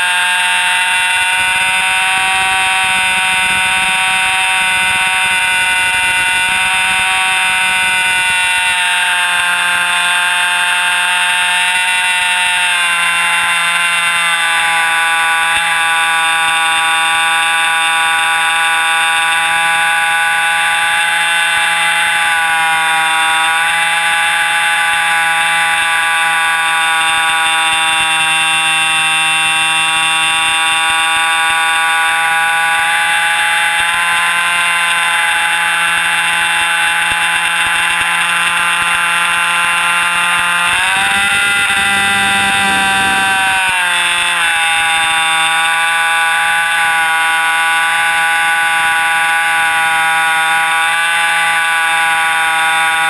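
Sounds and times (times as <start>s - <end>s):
model airplane engine whine: 0.0s - 53.0s.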